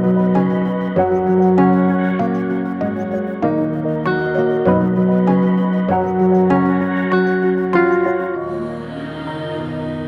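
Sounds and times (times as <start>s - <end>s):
soft keyboard music: 0.0s - 10.0s.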